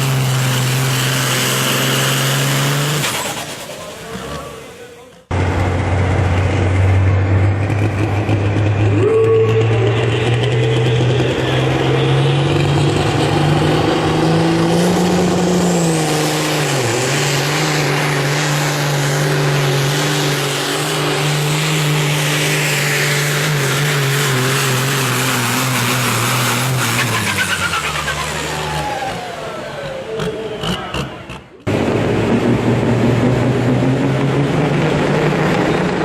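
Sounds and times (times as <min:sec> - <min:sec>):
truck diesel engine high revs: 0:00.0 - 0:36.0.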